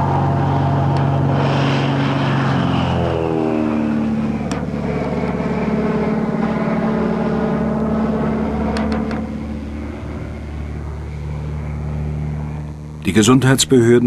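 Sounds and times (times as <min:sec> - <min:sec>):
light aircraft engine passing overhead: 0:00.0 - 0:14.0.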